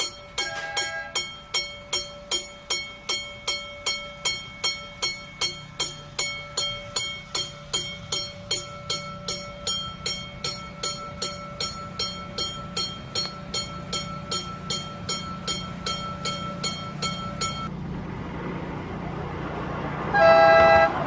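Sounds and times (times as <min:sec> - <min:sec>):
level crossing bell ringing: 0:00.0 - 0:17.7.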